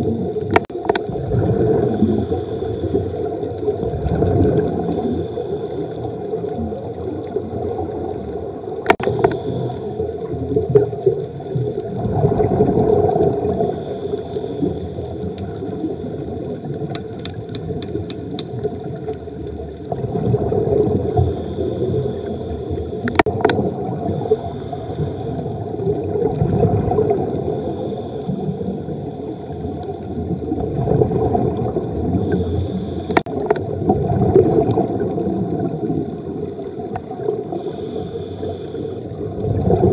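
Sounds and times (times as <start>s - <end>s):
diver's exhaled bubbles gurgling: 0.0s - 39.9s.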